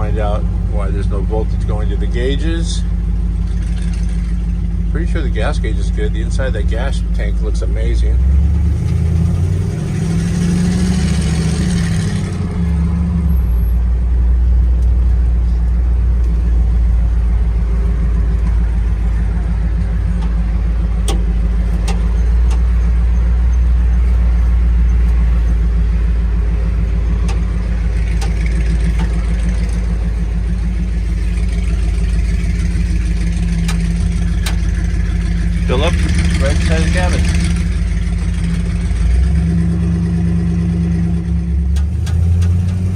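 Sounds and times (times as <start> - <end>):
pickup engine deep drone: 0.0 - 42.9.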